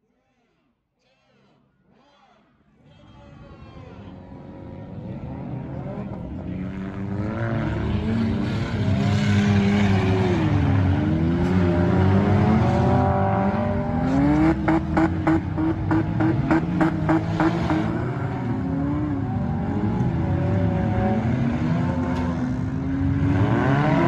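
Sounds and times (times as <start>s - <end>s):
car engines revving: 3.8s - 24.0s.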